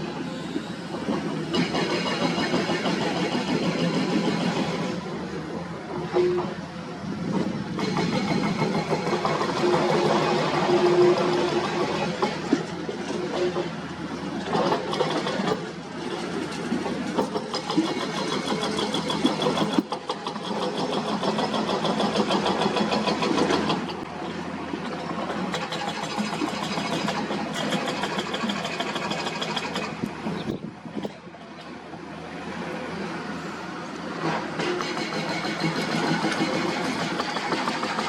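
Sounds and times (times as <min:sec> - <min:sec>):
heavy diesel machinery running: 0:00.0 - 0:38.0.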